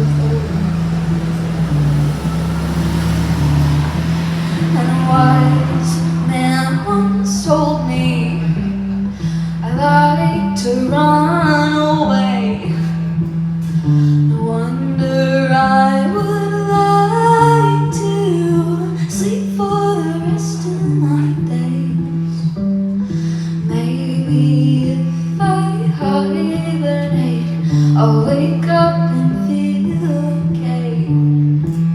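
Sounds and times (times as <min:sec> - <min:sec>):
bass playing low notes: 0:00.0 - 0:31.9
woman singing: 0:04.5 - 0:13.2, 0:14.0 - 0:22.6, 0:23.2 - 0:31.9.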